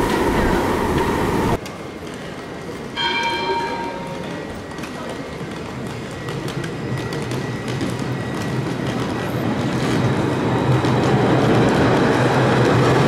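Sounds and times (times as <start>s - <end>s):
electric tram rumble and hum: 0.0s - 13.0s.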